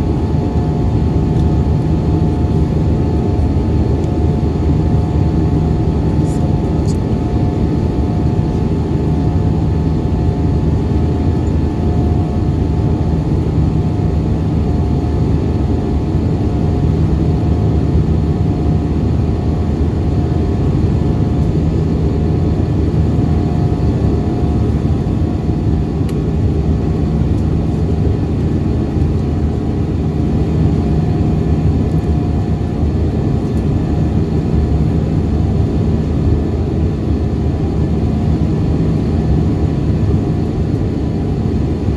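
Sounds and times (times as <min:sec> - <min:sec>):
jet engines droning: 0:00.0 - 0:41.9
steady hums: 0:00.0 - 0:41.9.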